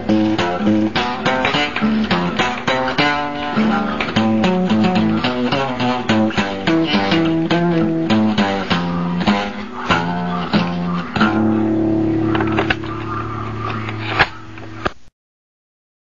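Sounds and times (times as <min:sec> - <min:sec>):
blues song: 0:00.0 - 0:14.4.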